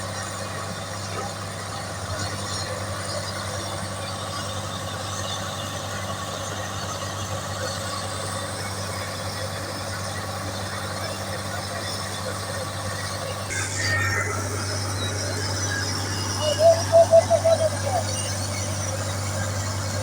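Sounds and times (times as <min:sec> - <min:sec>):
heavy machinery engine running: 0:00.0 - 0:20.0.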